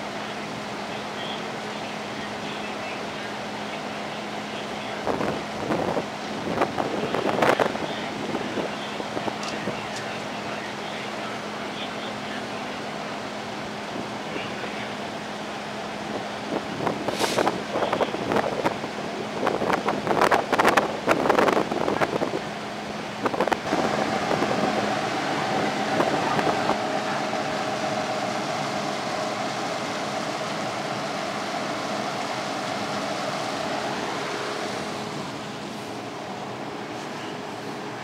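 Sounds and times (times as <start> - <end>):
fire engine engine running: 0.0 - 38.0.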